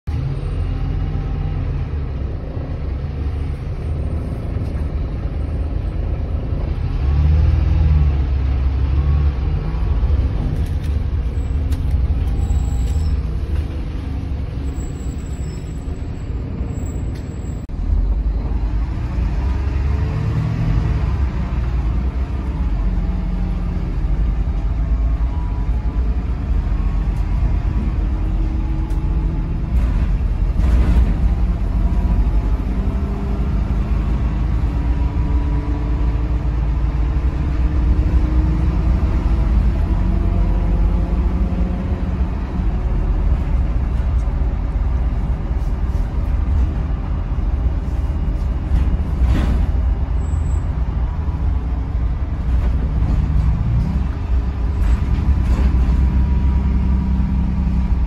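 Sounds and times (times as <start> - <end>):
bus engine rumbling from inside: 0.0 - 58.0.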